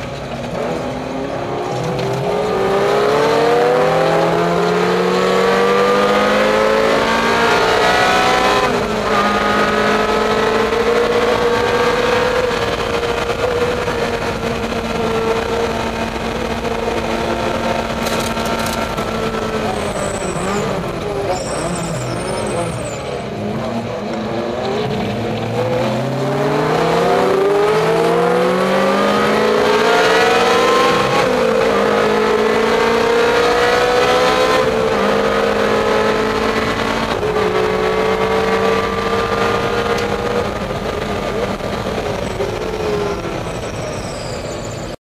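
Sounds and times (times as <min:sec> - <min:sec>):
gear changes: 0:00.0 - 0:45.0
race car engine accelerating: 0:00.0 - 0:45.0.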